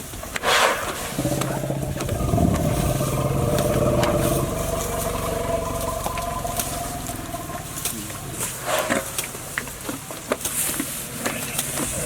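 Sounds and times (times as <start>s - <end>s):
engine running steadily: 1.0s - 12.0s.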